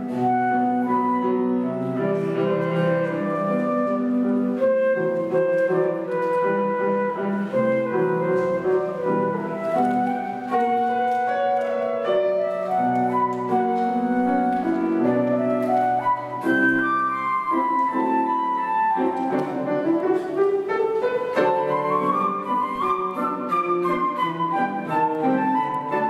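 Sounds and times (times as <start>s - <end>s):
flute melody: 0.0s - 26.0s
piano accompaniment: 0.0s - 26.0s.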